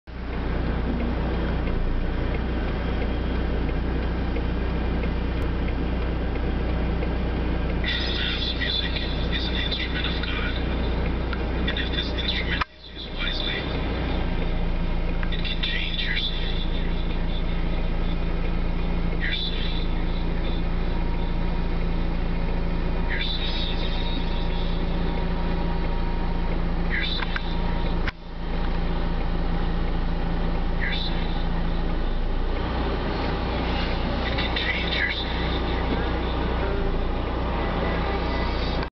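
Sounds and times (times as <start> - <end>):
tractor diesel engine under load: 0.1 - 38.9.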